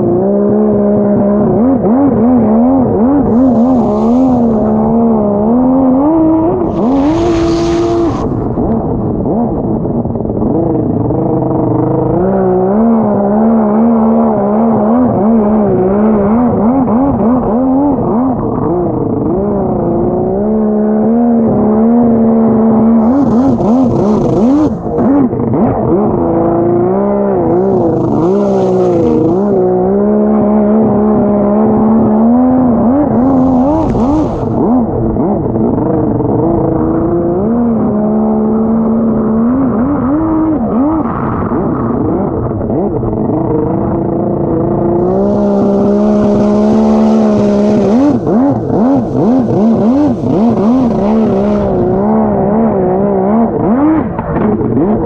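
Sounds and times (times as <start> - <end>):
jet ski engine revving: 0.0 - 55.0.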